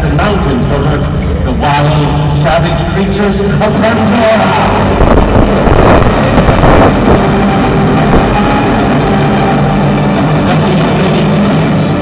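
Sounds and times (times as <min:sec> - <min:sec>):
rumbling drone over sound system: 0:00.0 - 0:12.0
rushing swell: 0:00.0 - 0:12.0.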